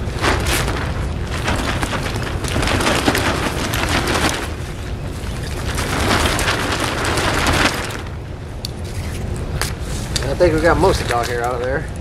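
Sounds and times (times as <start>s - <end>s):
tent fabric flapping and rustling: 0.0s - 11.8s.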